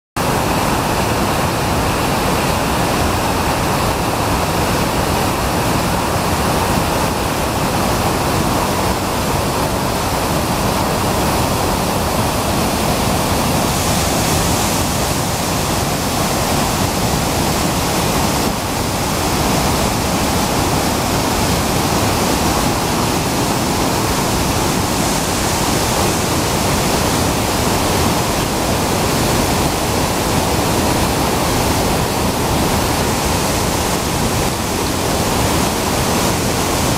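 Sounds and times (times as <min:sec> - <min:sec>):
waterfall crashing onto rocks: 0:00.2 - 0:36.9.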